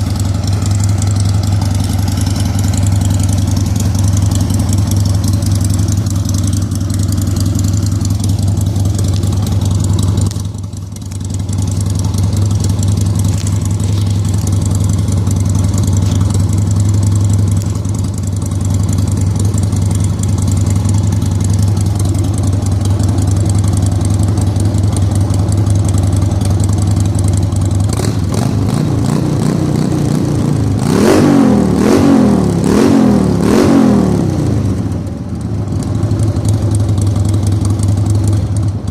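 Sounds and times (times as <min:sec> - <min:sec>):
vehicle engine idling and revving: 0:00.0 - 0:38.9.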